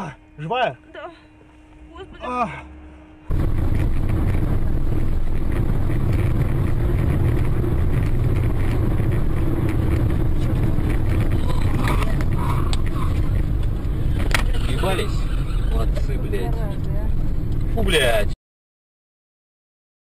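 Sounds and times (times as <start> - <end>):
vehicle engine and road rumble: 0.0 - 18.4.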